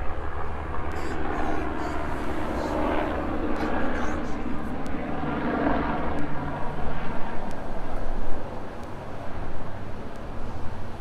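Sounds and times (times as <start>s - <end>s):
low engine hum: 0.0s - 11.0s
vehicles passing: 0.0s - 11.0s.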